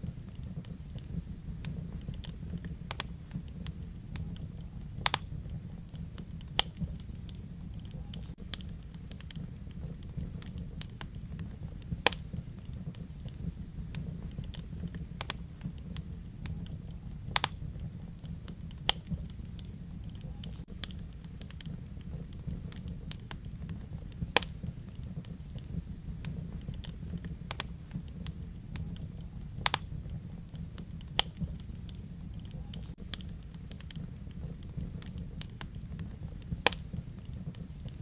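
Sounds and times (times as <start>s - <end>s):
low rumble of flame: 0.0s - 38.0s
wood fire crackling: 0.0s - 38.0s.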